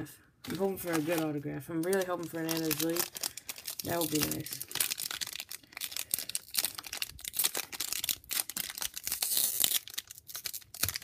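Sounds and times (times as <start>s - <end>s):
foil wrapper crinkling: 0.4s - 11.0s.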